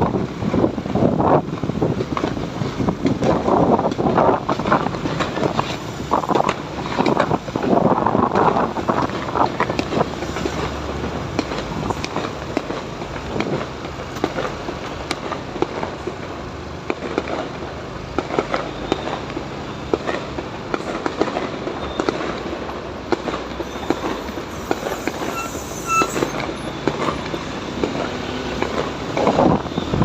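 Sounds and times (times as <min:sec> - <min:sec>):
fireworks popping and crackling: 0:00.0 - 0:30.0
traffic noise: 0:00.0 - 0:30.0.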